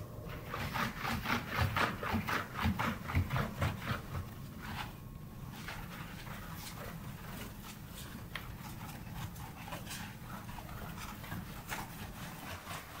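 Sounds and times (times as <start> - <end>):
cloth wiping over tiles: 0.4 - 13.0.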